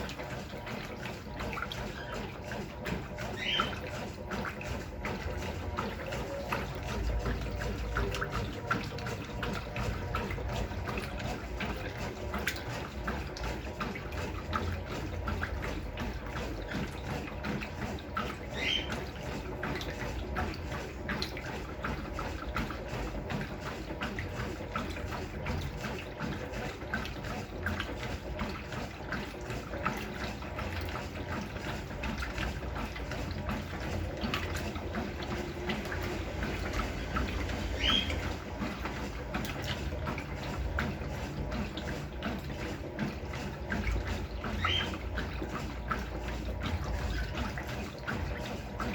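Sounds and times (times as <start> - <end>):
washing machine water sloshing: 0.0 - 48.9.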